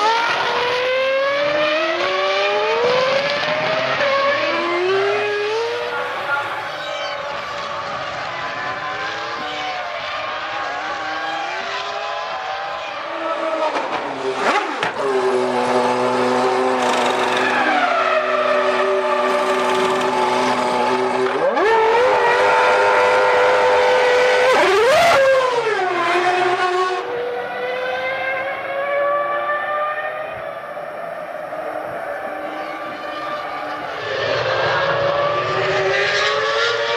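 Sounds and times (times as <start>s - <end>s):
racing car engines at high revs: 0.0s - 36.9s.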